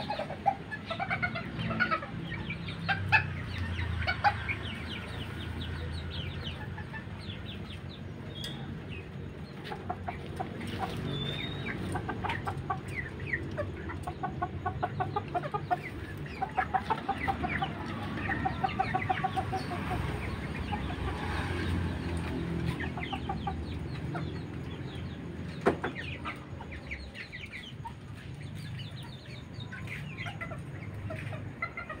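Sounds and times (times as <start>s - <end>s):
chickens clucking: 0.0s - 32.0s
high chirping: 0.0s - 32.0s.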